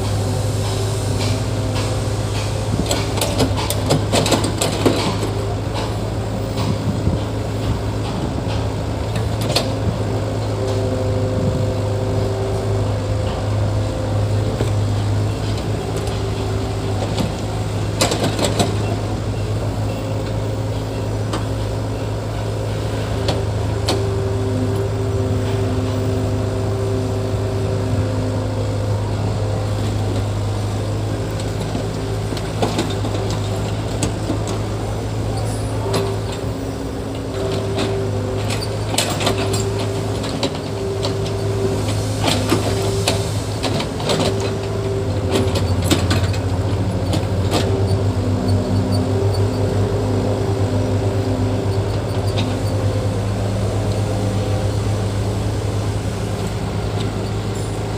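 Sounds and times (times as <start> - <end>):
diesel engine droning: 0.0 - 57.9.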